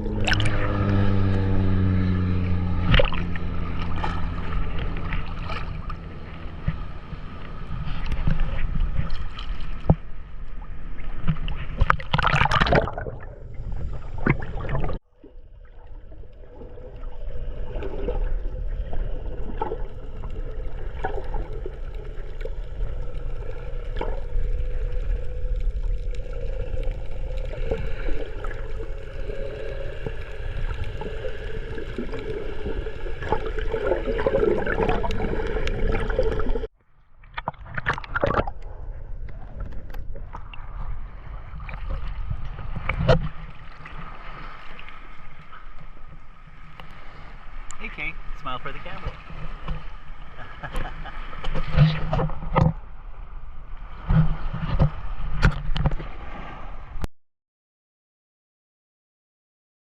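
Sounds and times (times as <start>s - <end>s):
water gurgling and sloshing: 0.0s - 57.1s.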